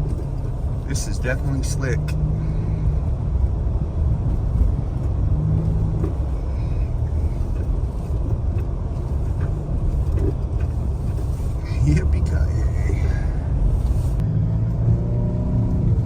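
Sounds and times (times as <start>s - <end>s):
low rumble of engine and tyres: 0.0s - 16.0s.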